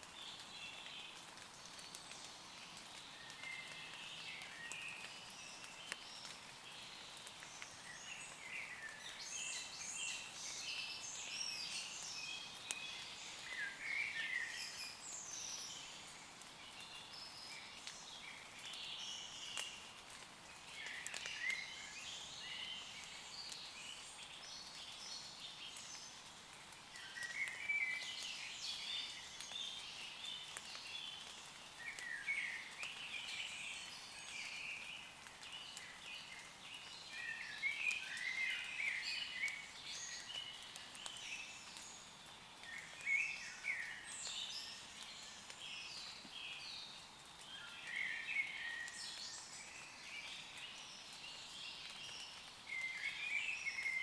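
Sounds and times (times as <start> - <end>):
water drips ticking: 0.0 - 9.2, 16.0 - 53.2
light rain patter: 0.0 - 54.0
songbirds chirping and trilling: 0.0 - 54.0.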